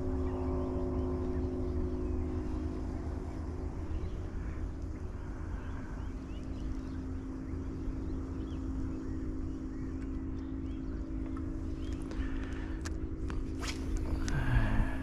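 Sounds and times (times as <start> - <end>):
faint bird chirps: 0.0 - 12.8, 13.6 - 15.0
steady low hum: 0.0 - 15.0.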